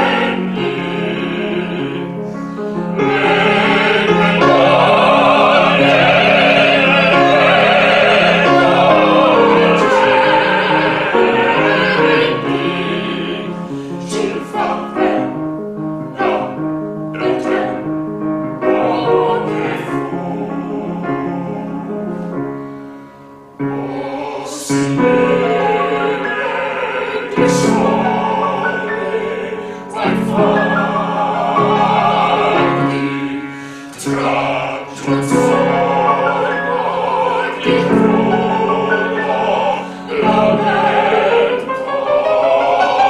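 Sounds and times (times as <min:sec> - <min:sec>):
classical singing with vibrato: 0:00.0 - 0:43.0
musical accompaniment: 0:00.0 - 0:43.0.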